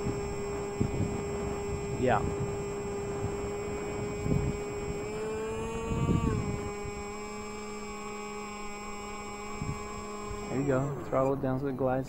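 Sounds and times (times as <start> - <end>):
model plane motor whining: 0.0 - 12.0.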